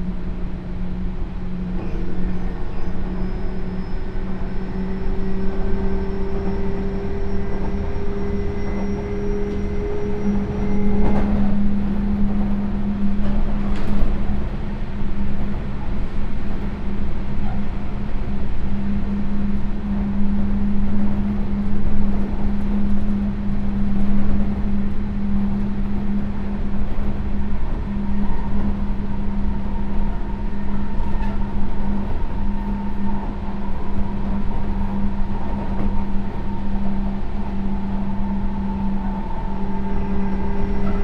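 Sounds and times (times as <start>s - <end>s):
constant low hum: 0.0s - 41.0s
train wheels rumbling on rails: 0.0s - 41.0s.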